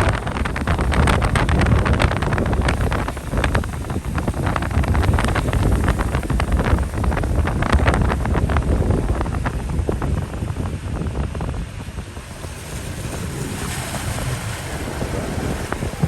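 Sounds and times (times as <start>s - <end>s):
heavy rain: 0.0s - 16.0s
wind buffeting microphone: 0.0s - 16.0s.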